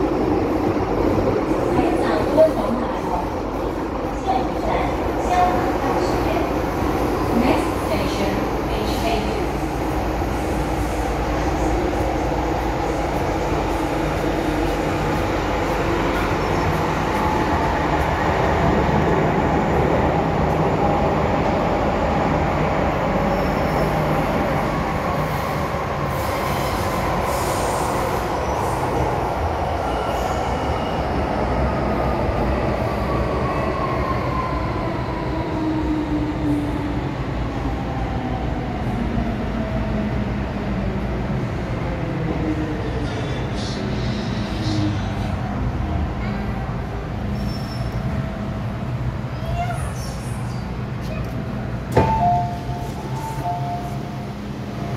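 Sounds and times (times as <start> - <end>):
train wheel and track noise: 0.0 - 54.9.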